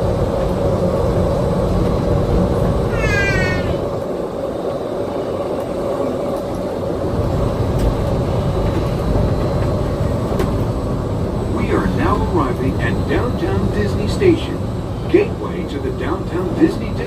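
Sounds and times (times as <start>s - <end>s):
monorail cabin rumble: 0.0s - 17.0s.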